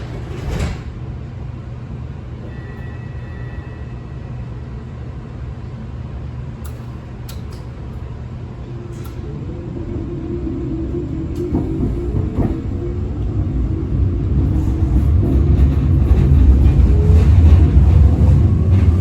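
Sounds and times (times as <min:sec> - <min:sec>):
train low rumble: 0:00.0 - 0:19.0
train motor hum: 0:00.0 - 0:19.0.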